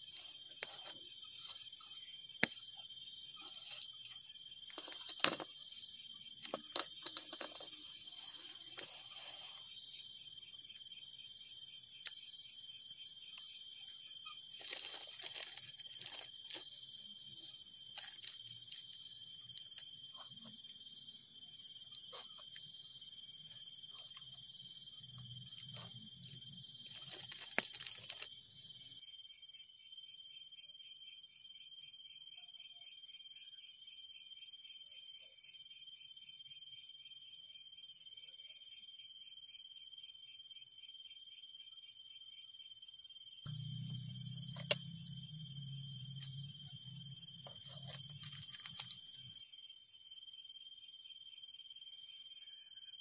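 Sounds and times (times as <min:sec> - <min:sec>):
night insects chorus: 0:00.0 - 0:53.0.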